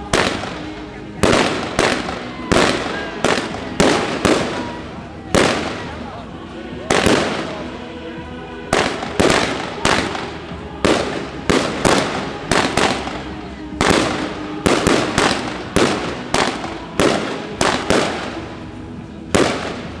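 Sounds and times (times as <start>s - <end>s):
fireworks bangs: 0.0s - 6.0s, 6.8s - 7.8s, 8.6s - 20.0s.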